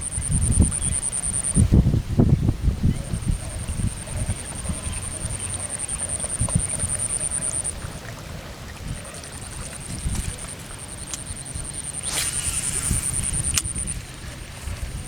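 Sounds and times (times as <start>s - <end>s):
high-pitched pulsing whine: 0.0s - 1.7s, 2.9s - 7.9s, 8.9s - 15.0s
wind buffeting microphone: 0.0s - 15.0s.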